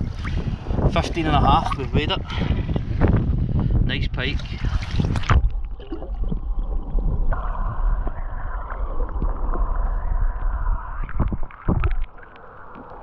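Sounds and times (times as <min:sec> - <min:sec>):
faint gurgles: 0:00.0 - 0:13.0
underwater low rumble: 0:00.0 - 0:13.0.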